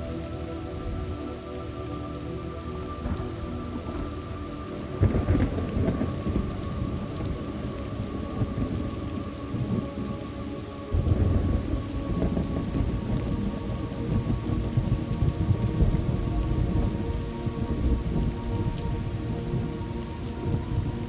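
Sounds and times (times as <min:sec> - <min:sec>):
steady rain falling: 0:00.0 - 0:21.0
low thunder rumbling: 0:03.0 - 0:10.2, 0:10.9 - 0:21.0.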